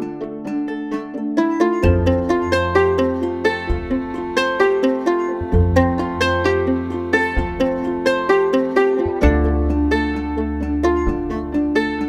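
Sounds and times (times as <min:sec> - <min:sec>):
plucked-string melody: 0:00.0 - 0:12.0.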